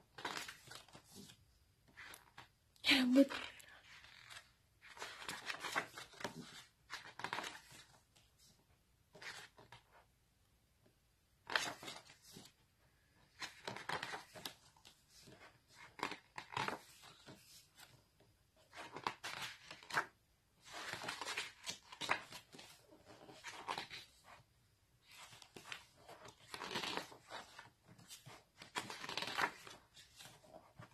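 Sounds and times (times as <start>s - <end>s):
stiff paper pages rustling: 0.1s - 2.5s, 3.8s - 8.5s, 11.4s - 12.6s, 13.3s - 18.0s, 18.6s - 30.9s.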